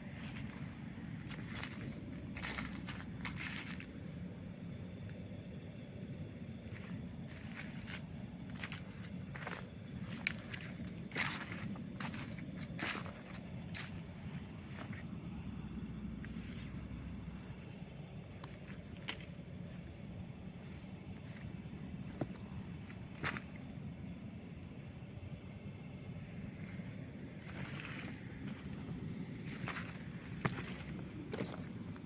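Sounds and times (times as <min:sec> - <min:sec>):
high-pitched insect drone: 0:00.0 - 0:32.0
insect chirps: 0:00.0 - 0:32.0.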